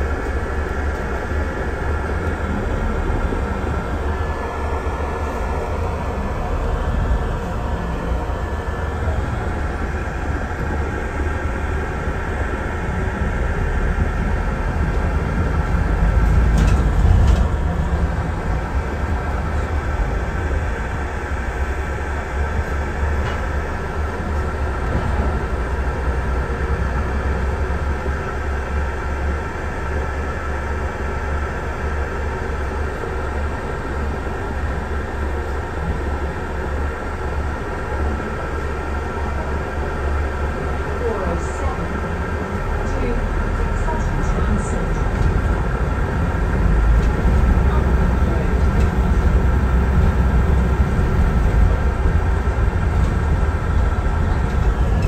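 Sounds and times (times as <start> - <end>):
bus engine and road rumble: 0.0 - 55.0
steady whining tones: 0.0 - 55.0.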